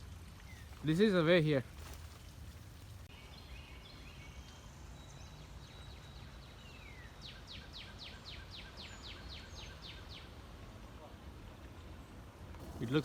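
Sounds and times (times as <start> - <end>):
low outdoor background noise: 0.0 - 13.0
songbird singing faintly: 0.0 - 13.0.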